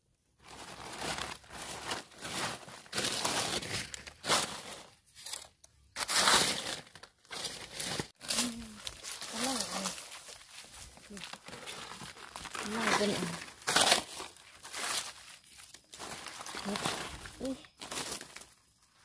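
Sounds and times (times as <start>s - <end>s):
dry leaves crackling and rustling: 0.4s - 19.0s.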